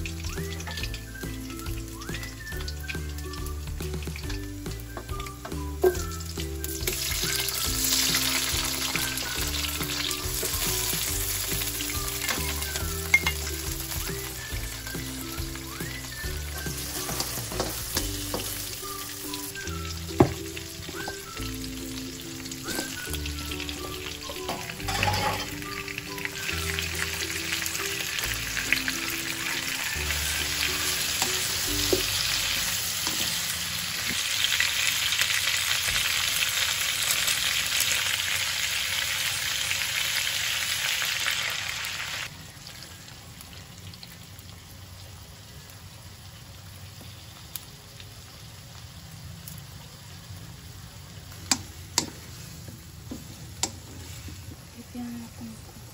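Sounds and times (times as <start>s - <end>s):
vegetables sizzling in hot oil: 0.0s - 55.9s.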